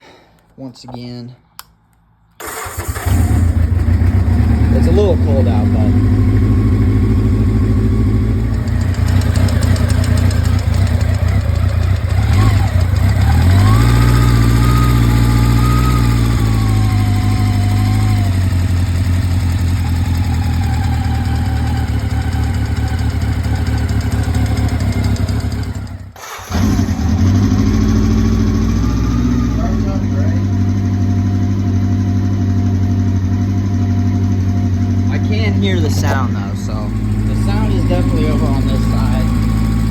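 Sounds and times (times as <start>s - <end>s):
engine ticking: 2.4s - 39.9s
motorcycle engine idling and revving: 2.4s - 39.9s.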